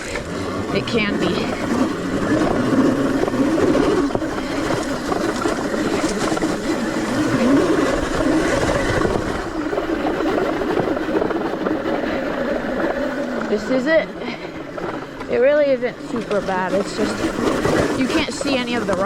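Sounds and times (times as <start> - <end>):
electric motor whine: 0.0 - 19.0
wind and ground noise: 0.0 - 19.0.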